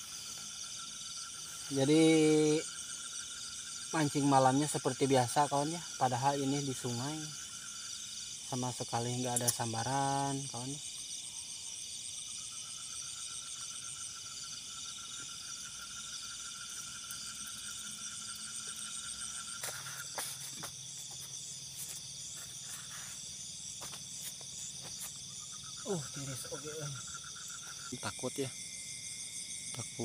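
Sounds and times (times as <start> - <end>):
crickets and insects trilling: 0.0 - 30.0.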